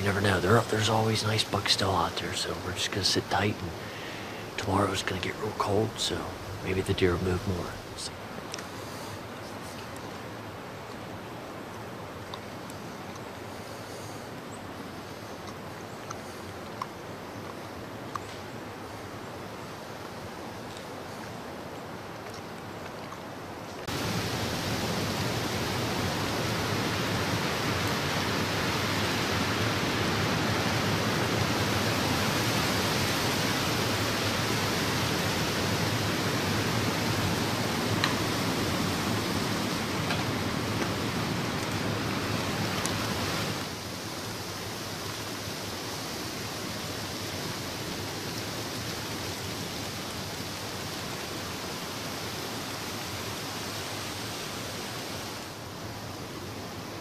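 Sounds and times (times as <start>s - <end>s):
wind rushing in woods: 0.0s - 57.0s.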